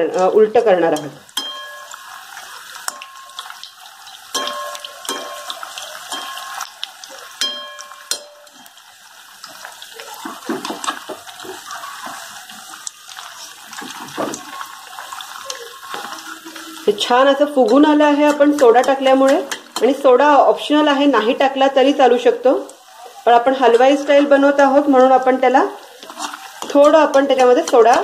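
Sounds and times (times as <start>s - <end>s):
deep-frying sizzle in oil: 0.0s - 28.0s.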